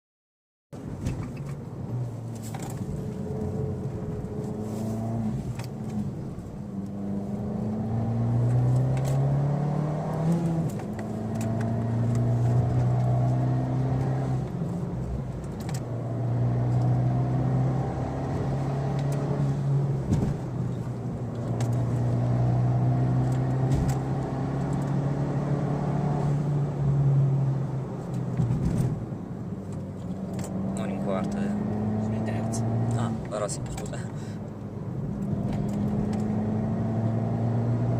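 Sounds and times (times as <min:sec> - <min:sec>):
car engine accelerating: 0:01.1 - 0:37.9.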